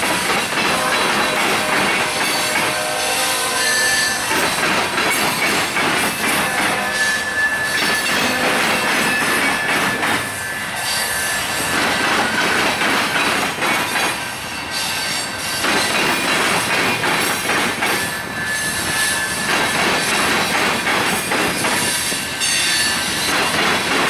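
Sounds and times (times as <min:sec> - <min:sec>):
freight train cars rolling: 0:00.0 - 0:24.0
steel wheel squeal: 0:00.2 - 0:23.9.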